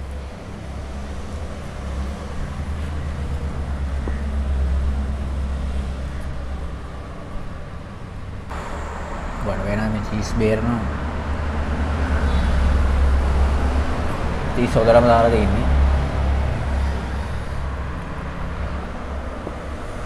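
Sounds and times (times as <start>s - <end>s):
heavy vehicle passing: 0.0s - 20.0s.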